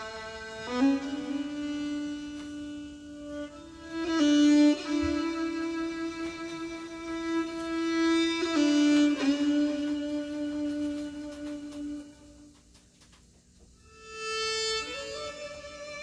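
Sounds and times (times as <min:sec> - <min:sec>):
bowed string instrument melody: 0:00.0 - 0:12.5, 0:13.8 - 0:16.0.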